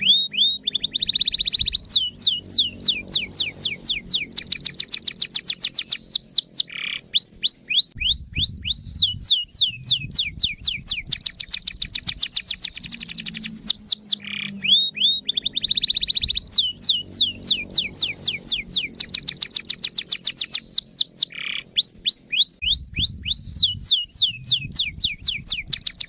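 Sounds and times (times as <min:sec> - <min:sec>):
canary singing: 0:00.0 - 0:26.0.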